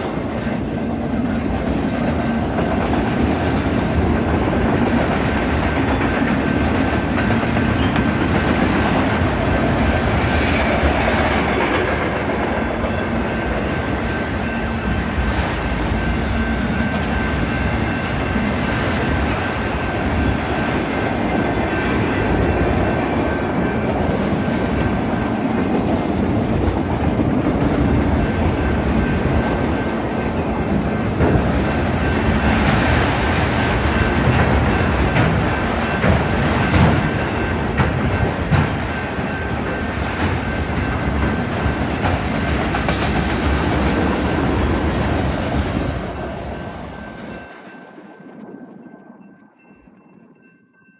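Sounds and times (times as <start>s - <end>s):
train cars rolling on rails: 0.0s - 50.9s.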